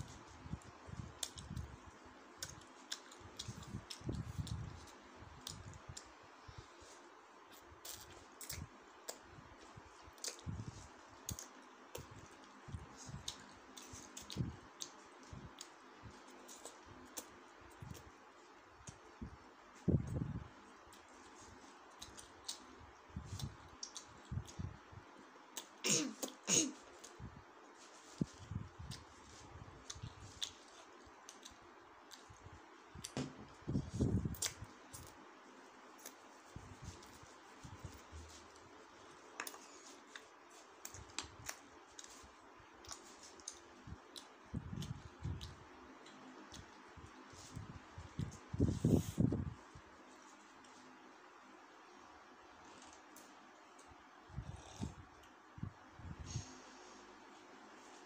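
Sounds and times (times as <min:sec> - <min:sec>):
noodles being chewed: 0:00.0 - 0:51.5.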